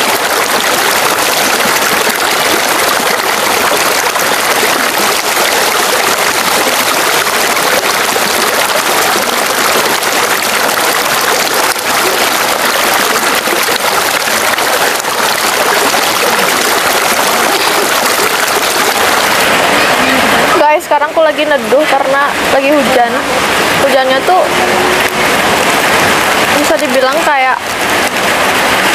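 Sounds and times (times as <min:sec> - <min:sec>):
water pouring into a pool: 0:00.0 - 0:28.9.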